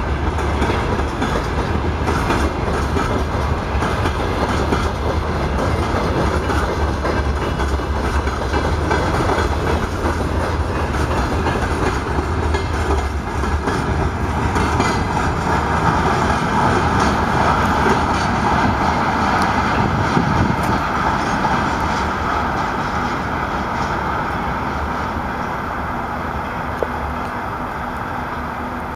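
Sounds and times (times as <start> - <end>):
train wheels clattering over rail joints: 0.0 - 25.6.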